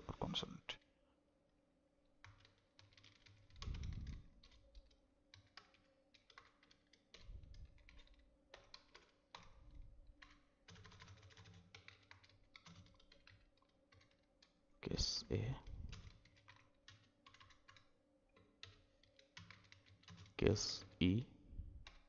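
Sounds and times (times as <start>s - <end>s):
faint keyboard typing: 2.2s - 22.0s.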